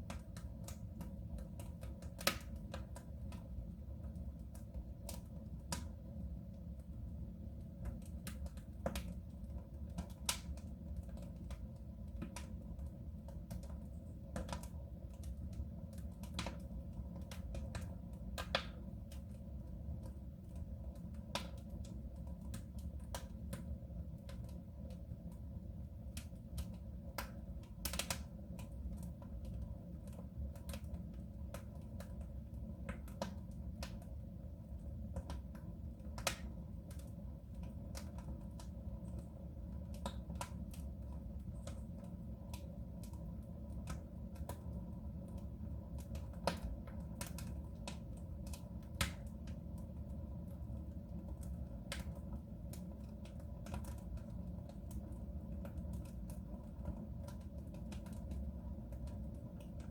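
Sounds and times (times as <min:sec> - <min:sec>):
low steady fire rumble: 0:00.0 - 0:59.9
wood fire crackling and popping: 0:00.0 - 0:59.9.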